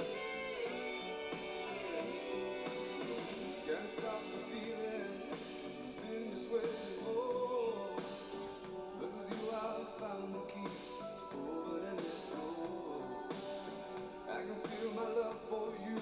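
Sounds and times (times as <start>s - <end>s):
rock song with guitar and singing: 0.0s - 16.0s.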